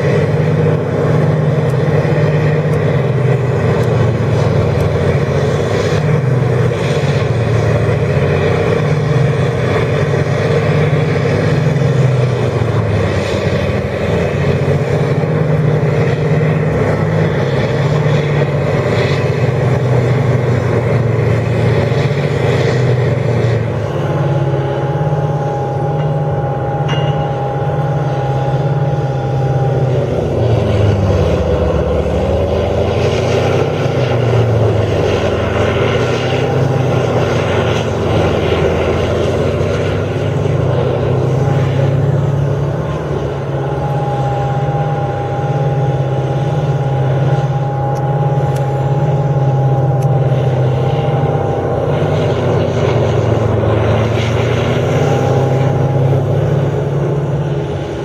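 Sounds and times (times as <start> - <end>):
heavy engine drone: 0.0 - 58.0
rough grinding noise: 0.0 - 58.0
thin steady whine: 0.0 - 58.0.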